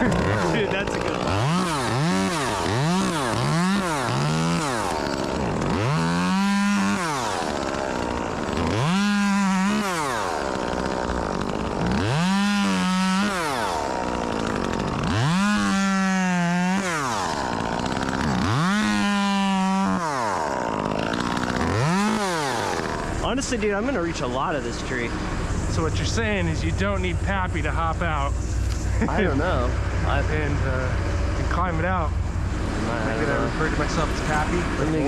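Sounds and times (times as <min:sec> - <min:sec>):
chainsaw revving: 0:00.0 - 0:35.0.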